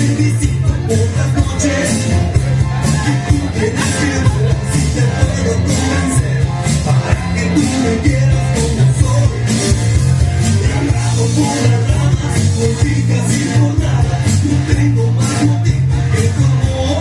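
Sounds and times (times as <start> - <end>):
live rock band with singing: 0.0 - 17.0.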